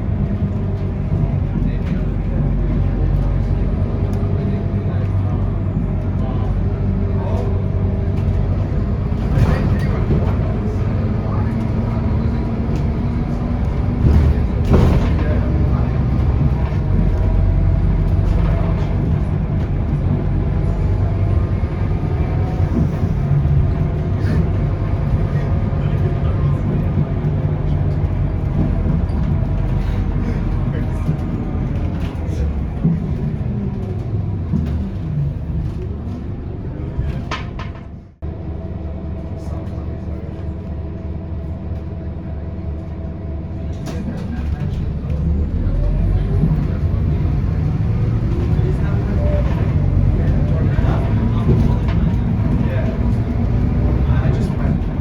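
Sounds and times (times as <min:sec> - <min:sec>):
diesel bus engine running: 0:00.0 - 0:55.0
road noise: 0:00.0 - 0:55.0.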